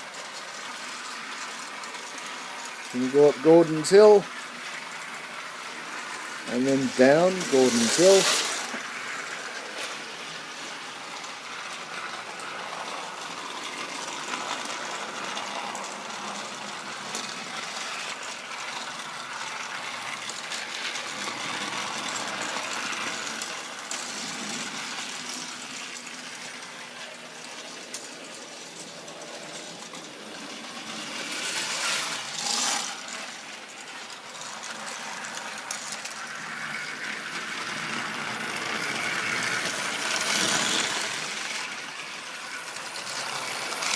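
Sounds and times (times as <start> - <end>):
toy train motor whirring: 0.0 - 43.9.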